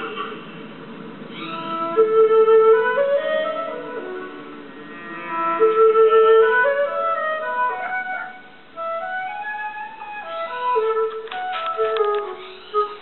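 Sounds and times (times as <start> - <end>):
soft woodwind music from television: 0.0 - 13.0.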